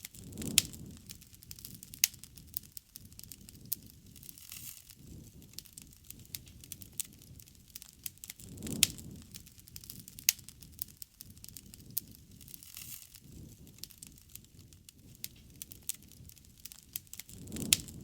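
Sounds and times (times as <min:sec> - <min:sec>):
campfire crackling: 0:00.0 - 0:18.0
fire popping and snapping: 0:00.0 - 0:18.0.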